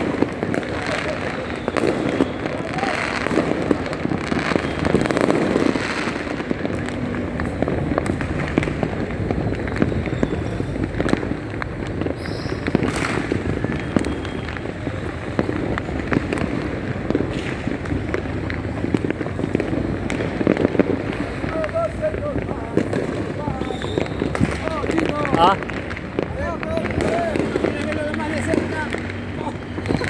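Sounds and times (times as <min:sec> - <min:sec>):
fireworks and firecrackers banging: 0:00.0 - 0:30.0.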